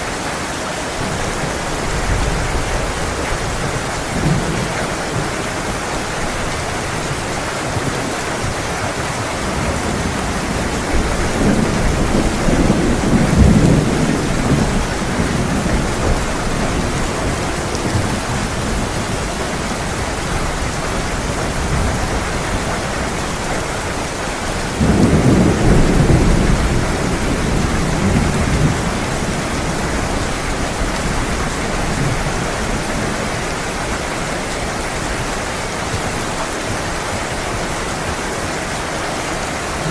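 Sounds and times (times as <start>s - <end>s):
heavy rain falling: 0.0s - 39.9s
thunder rumbling: 1.0s - 38.2s.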